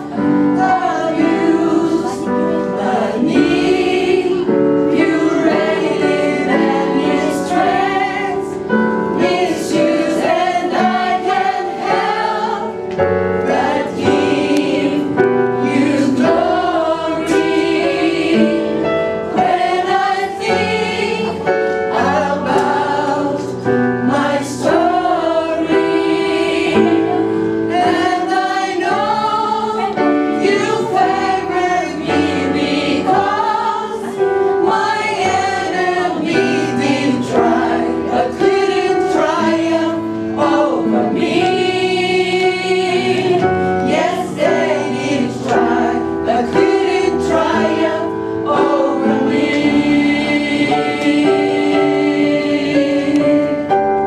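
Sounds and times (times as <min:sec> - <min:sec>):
gospel singing: 0:00.0 - 0:54.0
instrumental accompaniment: 0:00.0 - 0:54.0.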